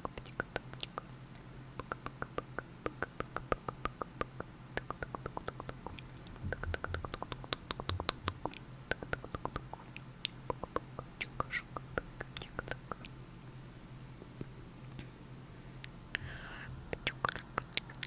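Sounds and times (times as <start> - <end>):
tongue and lip clicks: 0.0 - 13.5, 16.9 - 18.0.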